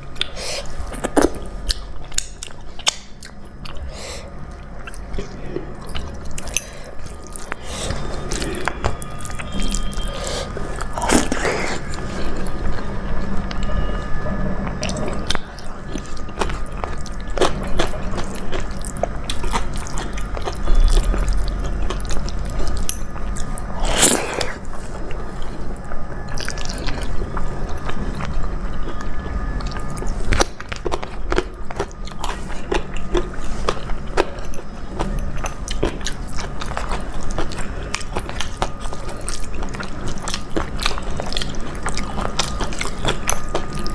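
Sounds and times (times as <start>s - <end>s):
chewing with wet mouth clicks: 0.1s - 13.8s, 14.6s - 25.2s, 26.3s - 43.9s.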